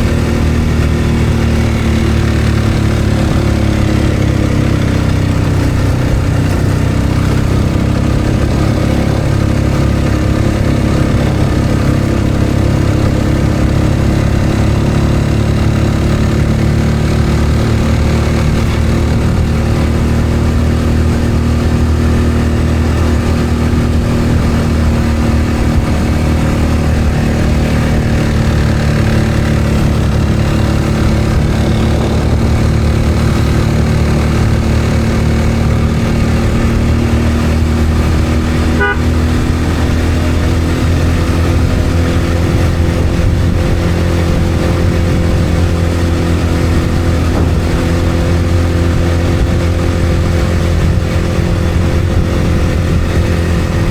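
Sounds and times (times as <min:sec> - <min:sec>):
road and wind noise: 0:00.0 - 0:53.9
vehicle engine running: 0:00.0 - 0:53.9.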